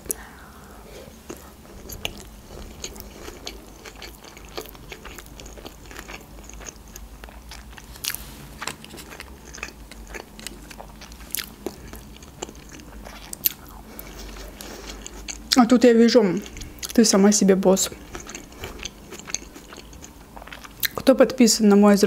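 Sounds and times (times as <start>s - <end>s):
crunchy chewing: 1.0s - 15.6s, 16.2s - 21.1s.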